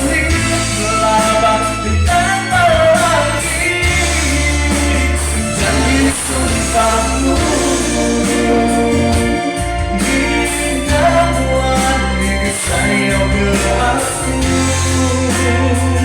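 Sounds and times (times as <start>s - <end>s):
band playing: 0.0s - 16.0s
person singing long notes: 0.0s - 16.0s
steady bass line: 0.0s - 16.0s.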